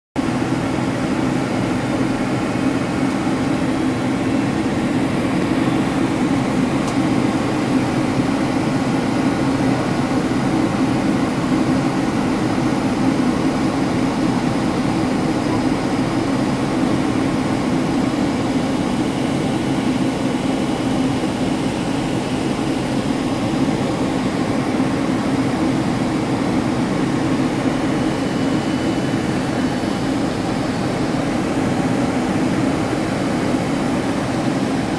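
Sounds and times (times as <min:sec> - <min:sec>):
jet engine roar and rushing air: 0:00.2 - 0:34.9.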